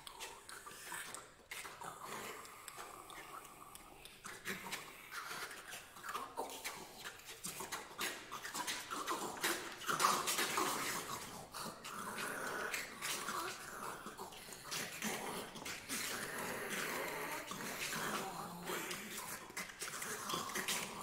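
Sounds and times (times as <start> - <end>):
short pitched vocal sounds: 0.0 - 21.0
vocal clicks and breathy hisses: 0.0 - 21.0.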